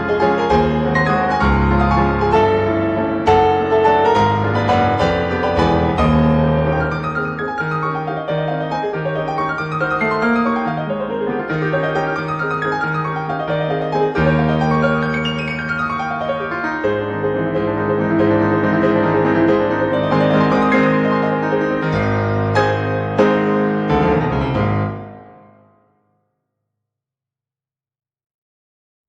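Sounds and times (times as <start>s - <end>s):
background piano music: 0.0s - 25.8s.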